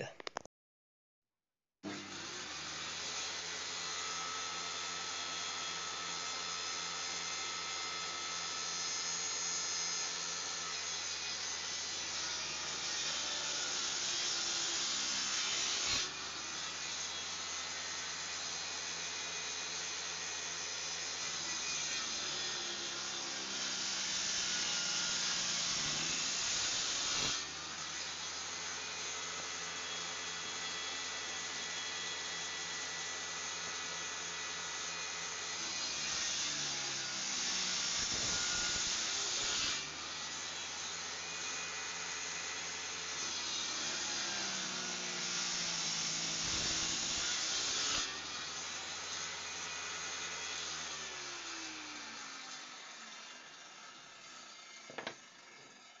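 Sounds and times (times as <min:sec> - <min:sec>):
saw cutting wooden board: 0:01.8 - 0:56.0
table saw running: 0:01.8 - 0:56.0.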